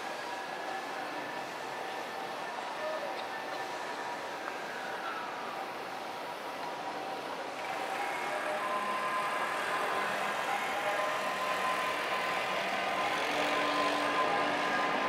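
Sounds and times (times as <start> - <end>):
city street traffic: 0.0 - 15.0
electric train rumbling on track: 0.0 - 15.0.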